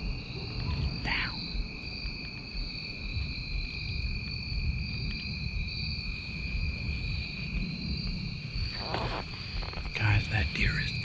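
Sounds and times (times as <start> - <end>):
insects trilling: 0.0 - 11.0
low rumble: 0.0 - 11.0.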